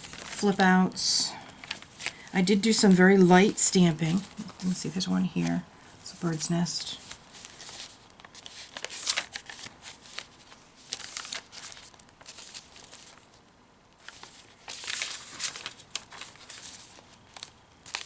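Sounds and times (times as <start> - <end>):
paper rustling and crinkling: 0.0 - 0.6, 1.4 - 18.0.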